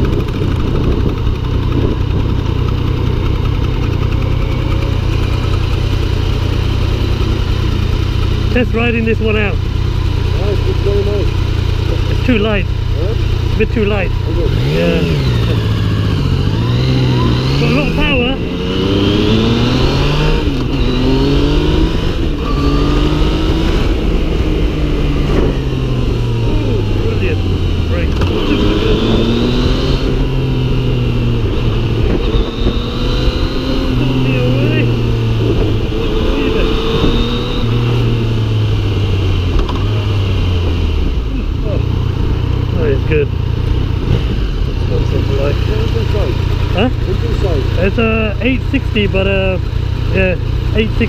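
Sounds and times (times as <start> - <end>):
motorcycle engine idling: 0.0 - 19.6, 23.9 - 29.2, 33.6 - 51.0.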